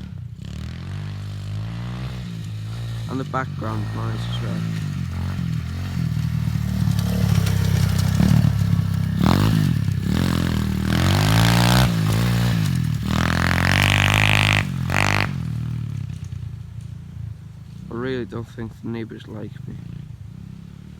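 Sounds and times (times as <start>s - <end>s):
pit bike engine revving: 0.0s - 20.9s.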